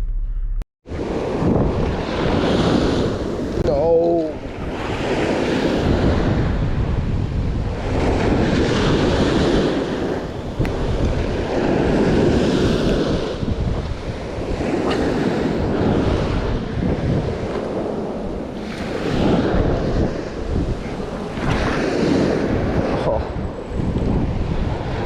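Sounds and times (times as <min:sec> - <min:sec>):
waves washing in: 0:00.9 - 0:25.0
wind buffeting microphone: 0:00.9 - 0:25.0.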